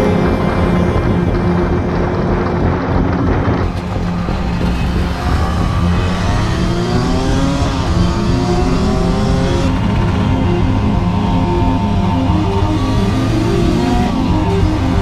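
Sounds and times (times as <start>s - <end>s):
two-stroke motorcycle engine accelerating: 0.0s - 15.0s.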